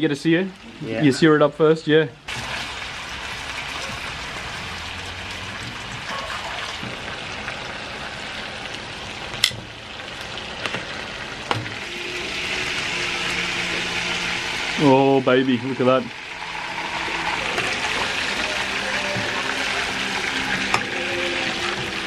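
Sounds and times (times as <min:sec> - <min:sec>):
meat sizzling in a tray: 0:02.3 - 0:22.0.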